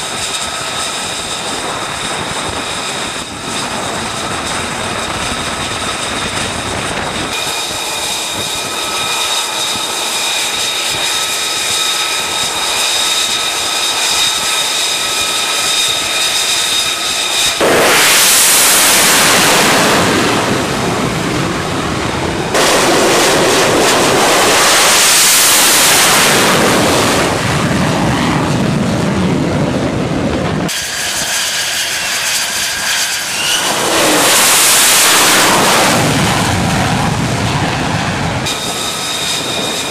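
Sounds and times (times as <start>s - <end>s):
jet engine whine: 0.0s - 39.9s
jet roar on takeoff: 0.0s - 39.9s.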